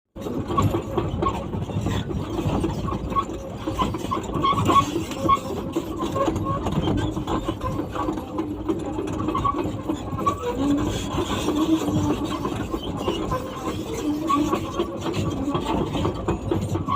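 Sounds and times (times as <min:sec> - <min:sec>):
excavator engine running: 0:00.2 - 0:16.9.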